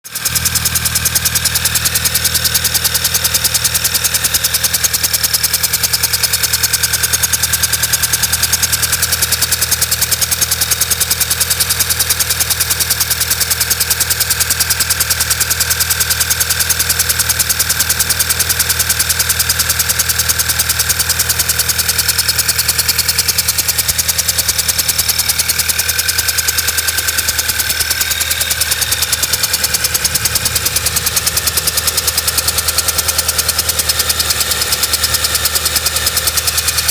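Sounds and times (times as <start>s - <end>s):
car engine idling roughly: 0.0s - 36.9s.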